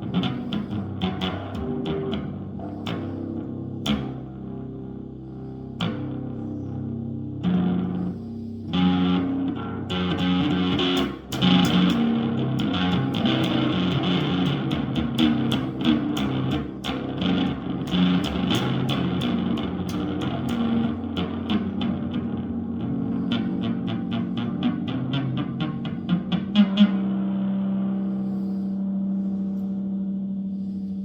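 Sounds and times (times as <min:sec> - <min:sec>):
low bass guitar notes: 0:00.0 - 0:31.0.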